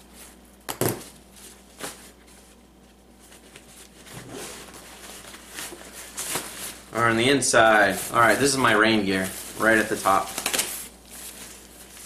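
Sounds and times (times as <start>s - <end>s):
fabric rustling: 1.1s - 12.0s.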